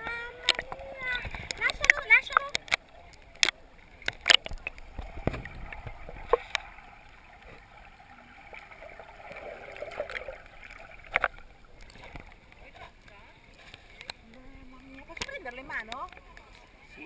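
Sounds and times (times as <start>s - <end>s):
muffled underwater water sloshing: 0.0s - 17.0s.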